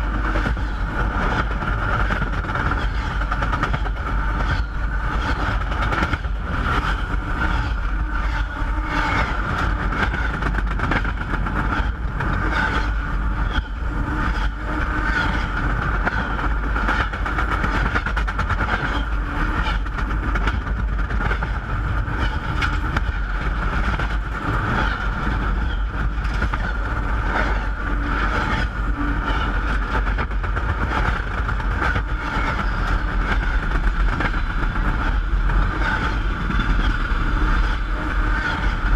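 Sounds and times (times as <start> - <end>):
train rolling over tracks: 0.0 - 38.9
wheels clicking on rails: 0.0 - 38.9.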